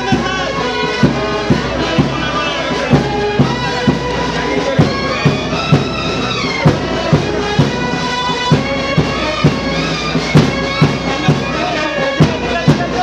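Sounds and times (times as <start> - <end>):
steady drumbeat: 0.0 - 13.0
wind instrument notes: 0.0 - 13.0.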